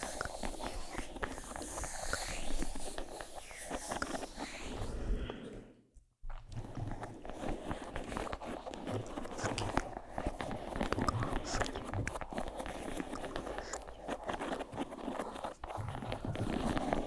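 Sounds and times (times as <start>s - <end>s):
close crackling and scratching: 0.0s - 5.0s, 6.3s - 17.0s.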